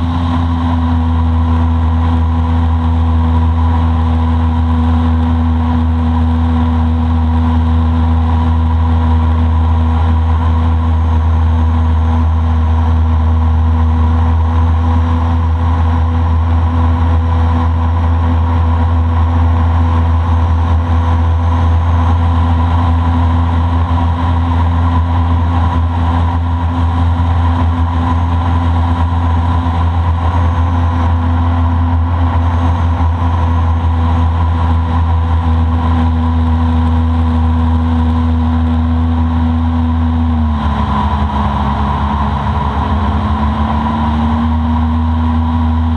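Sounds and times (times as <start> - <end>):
boat motor droning: 0.0 - 45.9.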